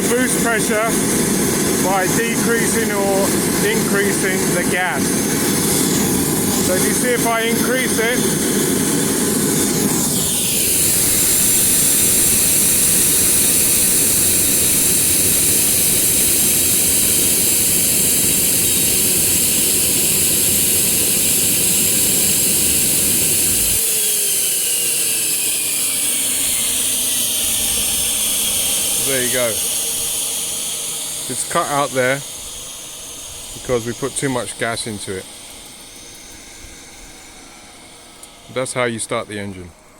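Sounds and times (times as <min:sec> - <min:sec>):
jet engine running loudly: 0:00.0 - 0:39.9
turbo whining down: 0:00.0 - 0:39.9.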